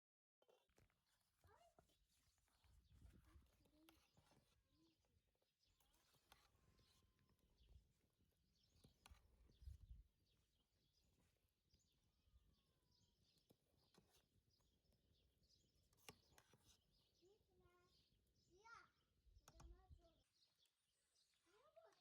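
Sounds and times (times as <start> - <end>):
faint small birds chirping: 0.4 - 22.0.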